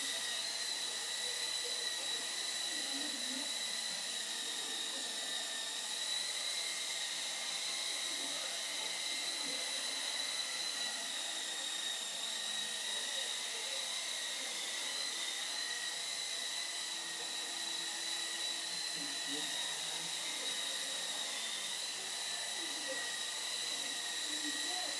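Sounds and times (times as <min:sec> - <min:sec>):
small motor whining: 0:00.0 - 0:24.9.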